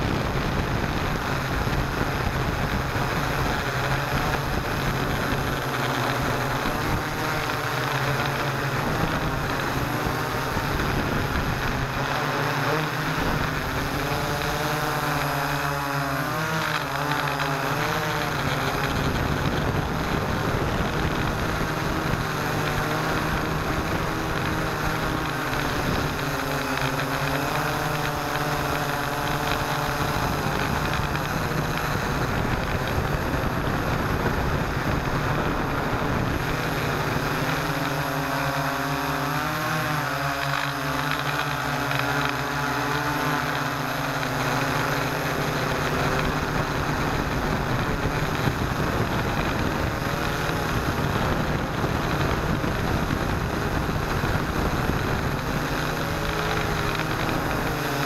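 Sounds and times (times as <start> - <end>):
drone motors whirring: 0.0 - 58.0.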